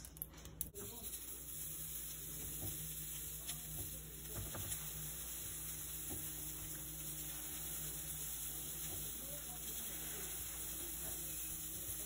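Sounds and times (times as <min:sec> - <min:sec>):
griddle hissing: 0:00.8 - 0:12.0.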